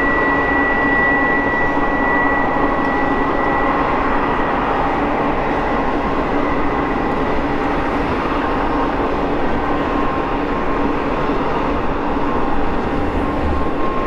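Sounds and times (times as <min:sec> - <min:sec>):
faint steady whine: 0:00.0 - 0:14.0
train wheels rumbling on rail: 0:00.0 - 0:14.0.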